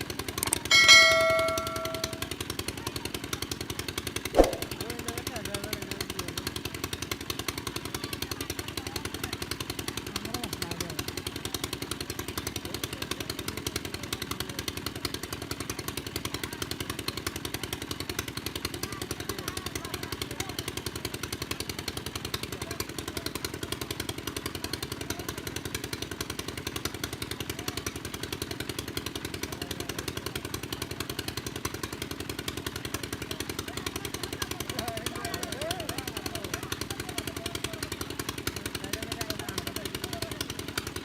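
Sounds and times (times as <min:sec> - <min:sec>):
small water pump engine running: 0:00.0 - 0:41.0.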